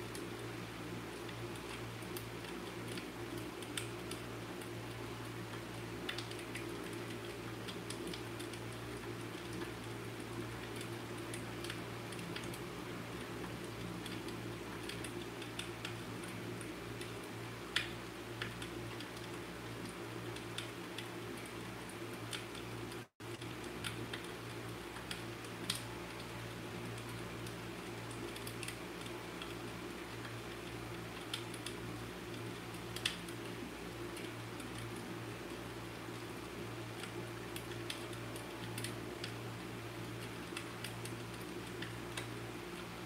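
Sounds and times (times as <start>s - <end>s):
fireplace crackling: 0.0s - 43.0s
low hum and hiss: 0.0s - 43.0s.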